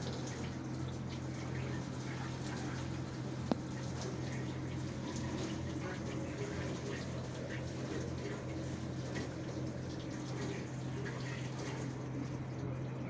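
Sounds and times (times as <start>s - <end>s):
dishwasher pump hum: 0.0s - 13.0s.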